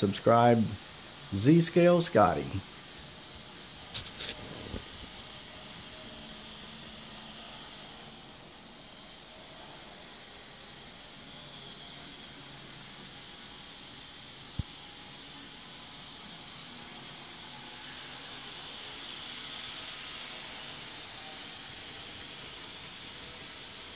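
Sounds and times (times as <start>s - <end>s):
room noise hiss: 0.0s - 23.9s.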